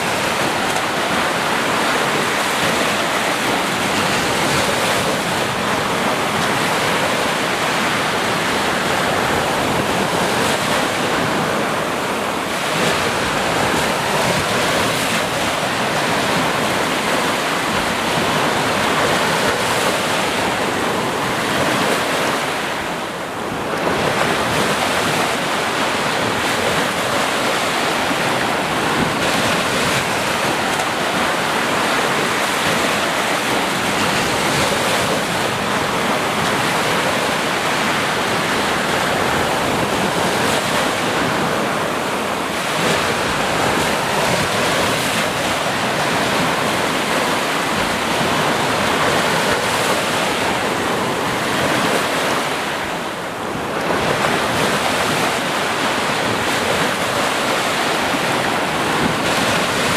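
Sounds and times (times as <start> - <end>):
waves washing: 0.0 - 59.9.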